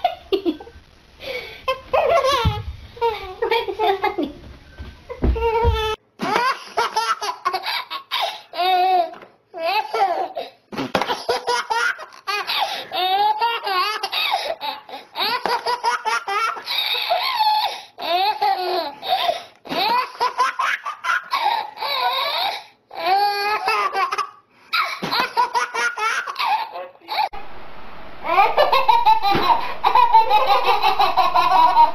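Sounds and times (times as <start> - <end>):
baby laughing: 1.7 - 3.7, 5.4 - 27.3, 28.2 - 31.9.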